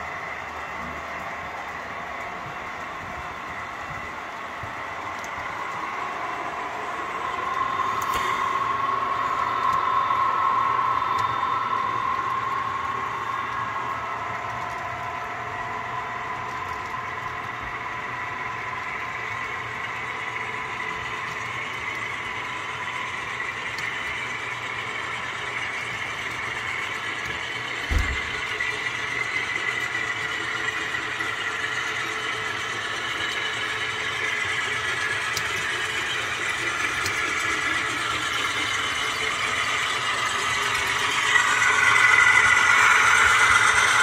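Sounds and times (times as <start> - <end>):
model trains humming: 0.0 - 44.0.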